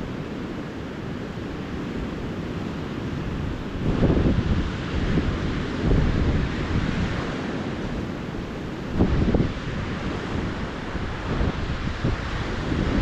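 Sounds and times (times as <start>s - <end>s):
surf washing onto beach: 0.0s - 13.0s
wind buffeting microphone: 1.3s - 13.0s.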